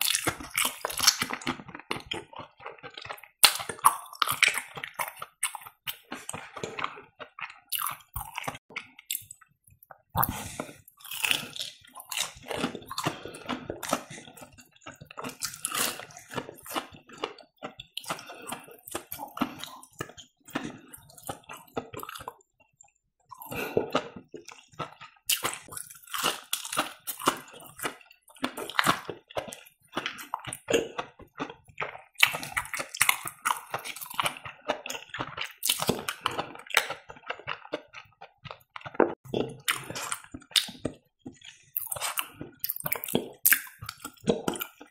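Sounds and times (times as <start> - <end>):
chewing and biting food: 0.0 - 44.9.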